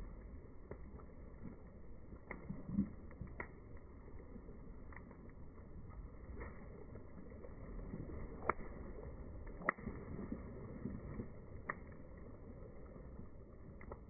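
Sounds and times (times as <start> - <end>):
bonfire crackling: 0.0 - 14.0
fire popping: 0.0 - 14.0
low rumble: 0.0 - 14.0.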